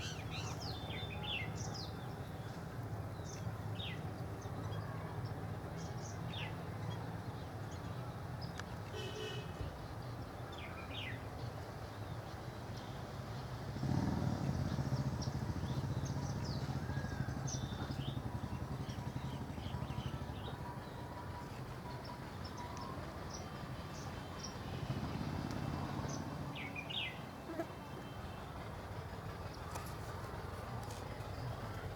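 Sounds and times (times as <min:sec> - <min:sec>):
outdoor background noise: 0:00.0 - 0:31.9.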